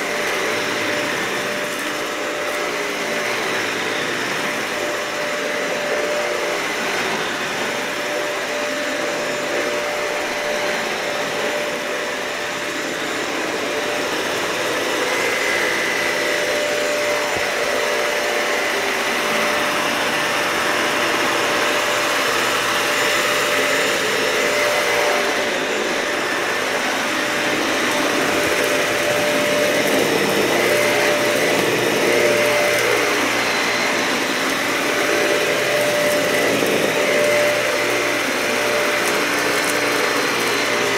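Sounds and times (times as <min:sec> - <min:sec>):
vacuum cleaner running over carpet: 0:00.0 - 0:40.9.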